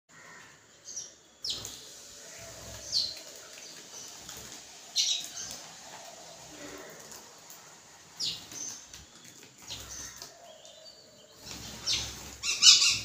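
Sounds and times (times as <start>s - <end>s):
sparrows chirping: 0.2s - 13.0s.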